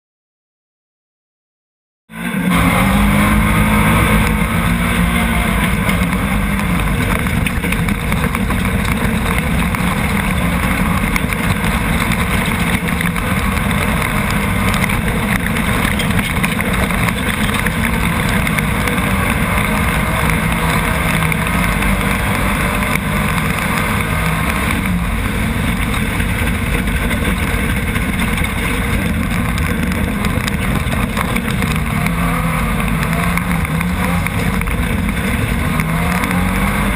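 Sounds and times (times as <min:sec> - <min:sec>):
buggy engine running hard: 0:02.1 - 0:36.9
tyre noise on gravel: 0:02.4 - 0:36.9.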